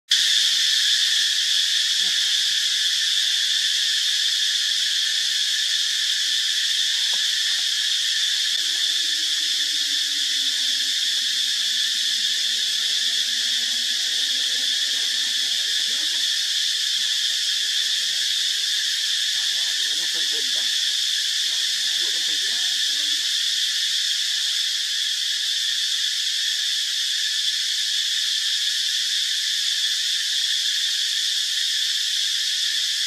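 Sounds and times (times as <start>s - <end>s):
insects singing high-pitched: 0.1s - 33.0s.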